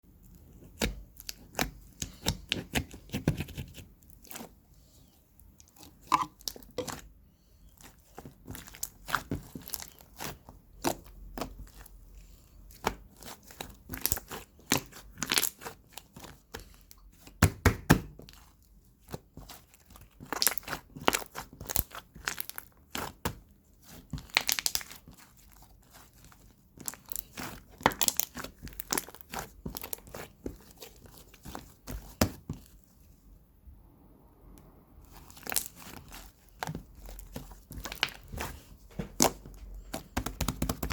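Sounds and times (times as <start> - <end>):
crinkling and crunching by hand: 0.1 - 33.3, 35.0 - 40.9.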